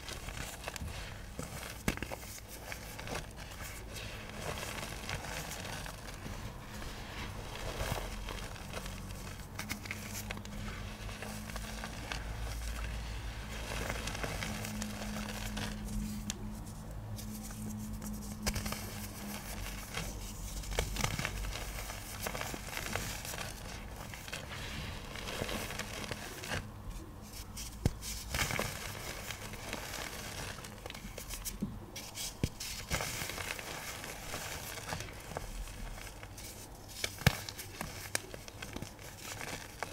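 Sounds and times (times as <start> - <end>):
pigment pebbles crunching: 0.0 - 39.9.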